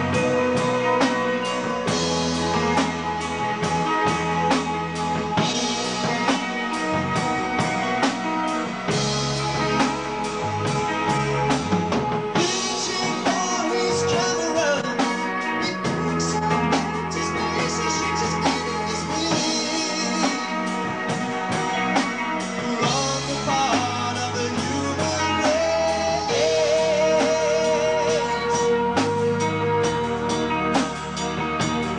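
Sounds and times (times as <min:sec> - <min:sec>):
drum kit steady beat: 0:00.0 - 0:31.9
guitar: 0:00.0 - 0:31.9
keyboards: 0:00.0 - 0:31.9.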